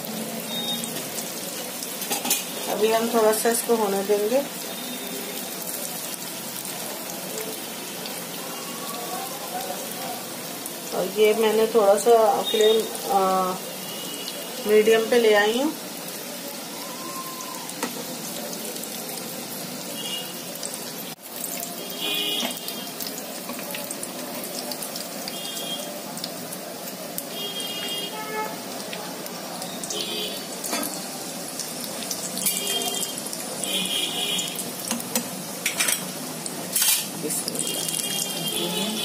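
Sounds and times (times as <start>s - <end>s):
oil sizzling while deep-frying: 0.0s - 39.0s.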